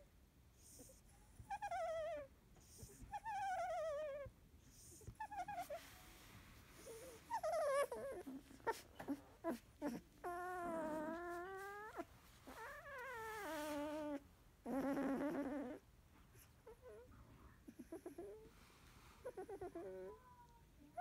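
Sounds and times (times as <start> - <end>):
puppy whimpering and whining: 0.6 - 21.0.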